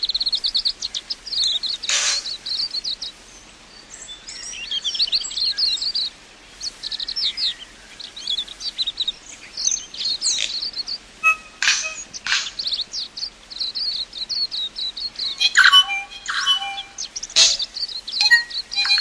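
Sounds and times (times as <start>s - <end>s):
bird chirping song: 0.0s - 19.0s.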